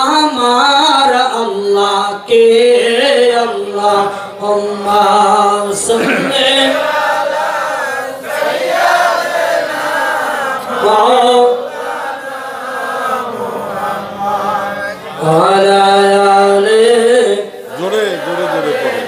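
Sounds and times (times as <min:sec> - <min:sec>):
voices chanting devotional song: 0:00.0 - 0:19.0.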